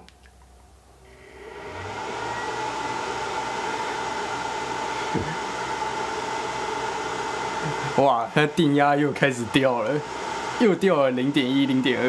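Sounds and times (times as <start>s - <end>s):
cooling fan whine: 0.8s - 12.0s.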